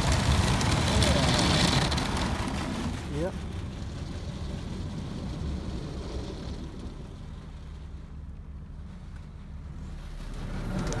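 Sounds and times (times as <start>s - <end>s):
car wash rumble and hiss: 0.0s - 11.0s.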